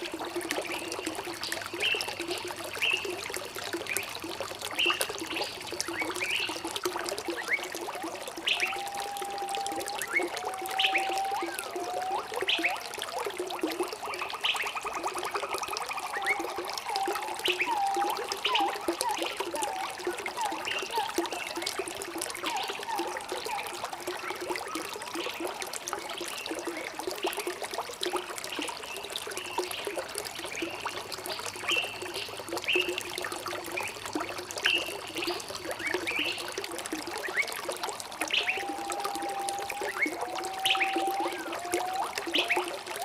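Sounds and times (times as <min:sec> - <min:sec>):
water trickling and gurgling: 0:00.0 - 0:43.0.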